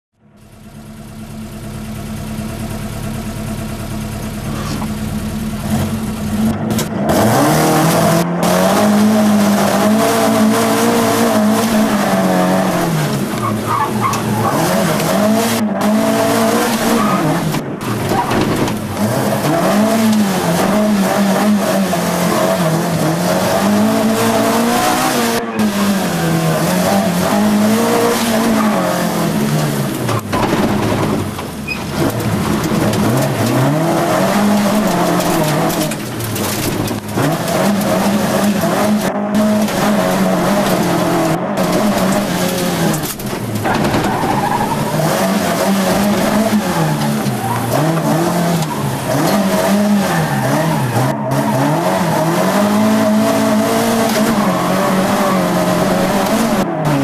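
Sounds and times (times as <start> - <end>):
rally car engine revving: 0.3 - 57.0.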